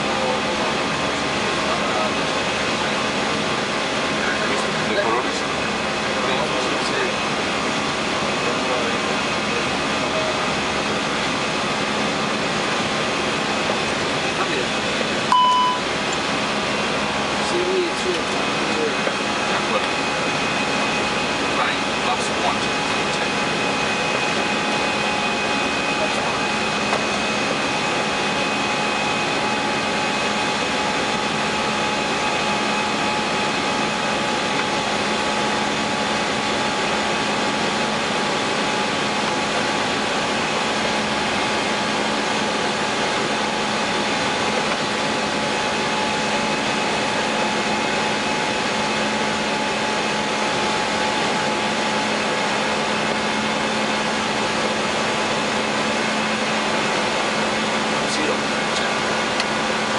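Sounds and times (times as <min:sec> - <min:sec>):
airflow and engine rush: 0:00.0 - 0:59.9.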